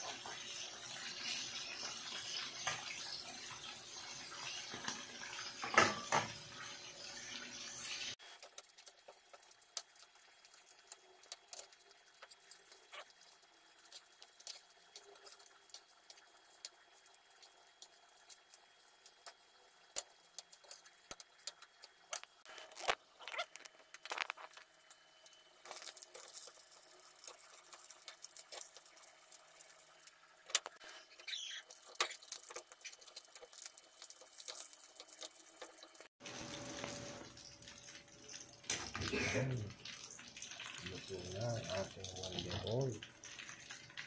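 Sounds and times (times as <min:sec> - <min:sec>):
hot oil sizzling and crackling: 0:00.0 - 0:44.0.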